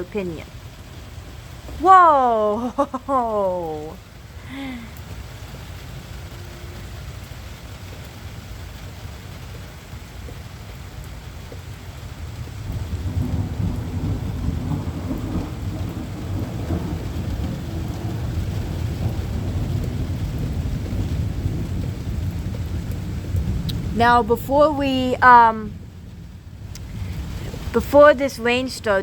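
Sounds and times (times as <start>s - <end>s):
thunder rumbling: 0.0s - 6.7s, 12.0s - 29.0s
steady rain: 0.0s - 29.0s.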